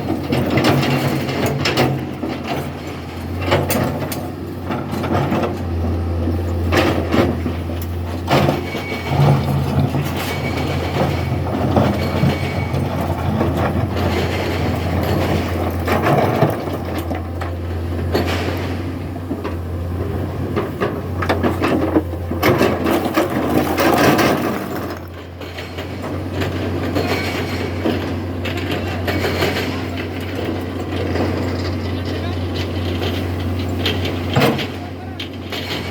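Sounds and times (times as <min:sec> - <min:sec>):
excavator engine droning: 0:00.0 - 0:35.9
metallic clanks and knocks: 0:00.1 - 0:35.9.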